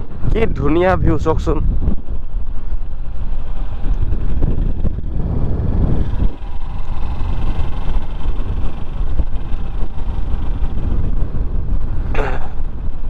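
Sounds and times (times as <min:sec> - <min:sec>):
wind rushing on microphone: 0:00.0 - 0:13.0
motorcycle engine running: 0:01.7 - 0:13.0.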